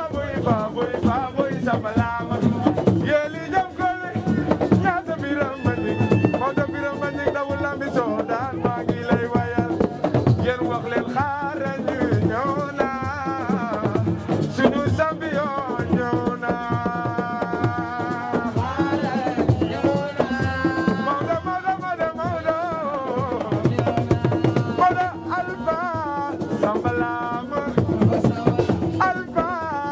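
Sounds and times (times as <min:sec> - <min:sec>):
voices singing: 0:00.0 - 0:29.9.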